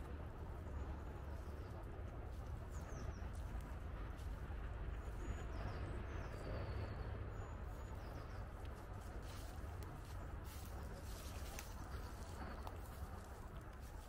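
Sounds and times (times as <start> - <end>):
low background rumble: 0.0 - 14.0
small birds chirping: 0.0 - 14.0.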